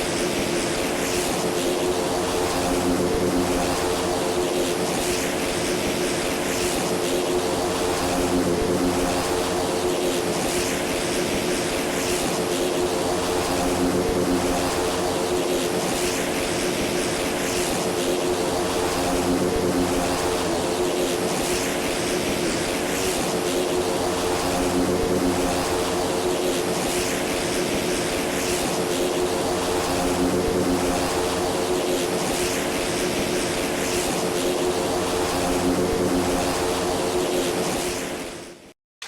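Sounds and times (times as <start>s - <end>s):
light aircraft engine droning: 0.0s - 38.3s.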